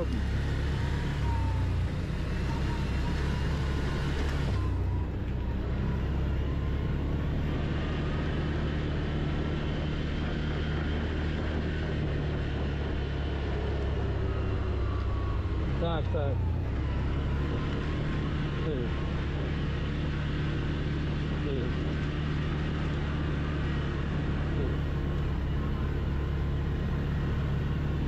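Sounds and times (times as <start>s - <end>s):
quad engine running: 0.0s - 28.0s.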